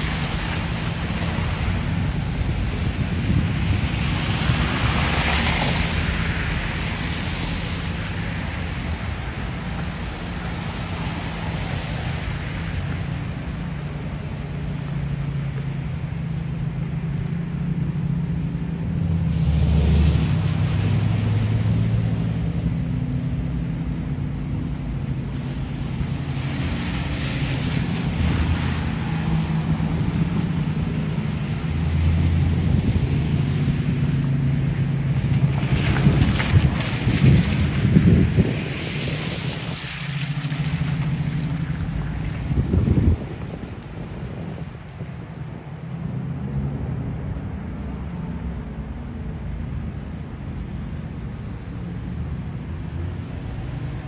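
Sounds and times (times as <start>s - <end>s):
traffic engine hum: 0.0s - 54.0s
tyres hissing on road: 0.0s - 54.0s.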